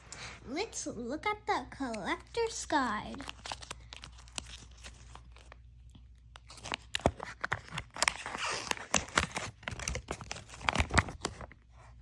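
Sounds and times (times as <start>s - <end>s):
packaging and paper rustling: 2.3s - 12.0s.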